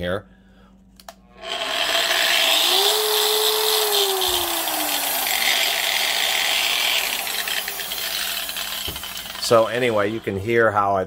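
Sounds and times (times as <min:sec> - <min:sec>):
angle grinder whine: 0:01.3 - 0:11.0.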